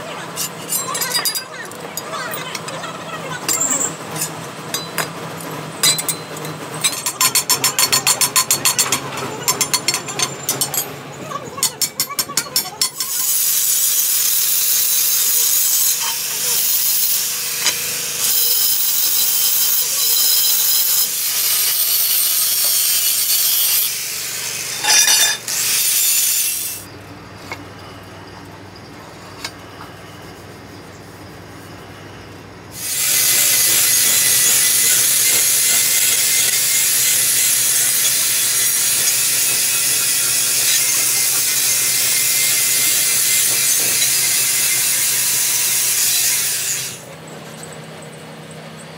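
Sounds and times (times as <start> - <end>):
angle grinder grinding steel: 0.1 - 27.6, 32.7 - 47.1.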